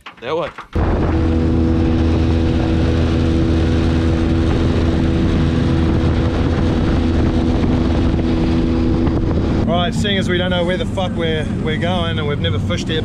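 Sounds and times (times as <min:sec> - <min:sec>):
motorboat engine droning: 0:00.7 - 0:13.0
wind and water rushing: 0:00.8 - 0:13.0.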